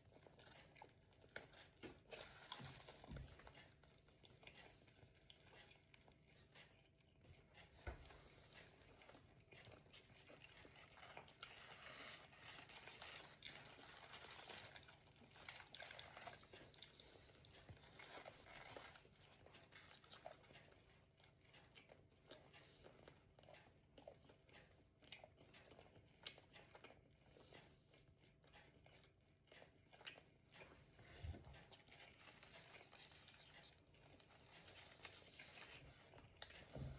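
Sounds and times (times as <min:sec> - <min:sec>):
chewing crunchy fried food: 0:00.0 - 0:36.9.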